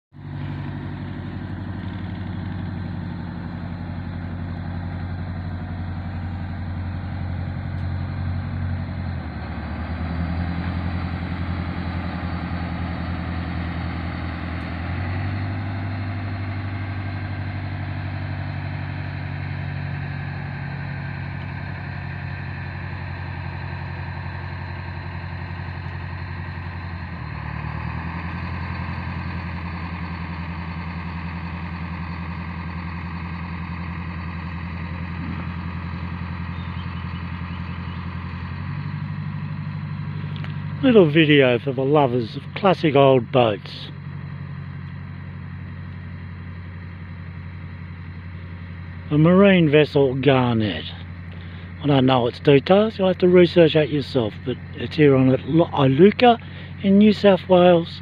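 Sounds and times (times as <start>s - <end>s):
boat engine droning: 0.2s - 58.0s.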